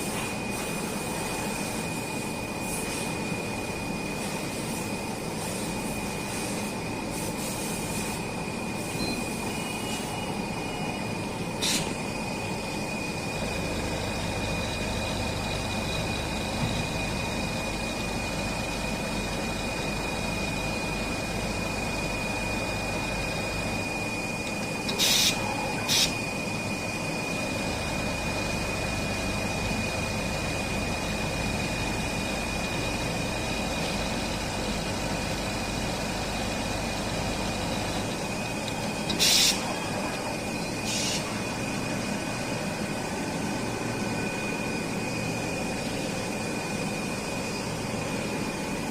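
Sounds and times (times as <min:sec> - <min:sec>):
sewing machine humming: 0:09.3 - 0:48.9.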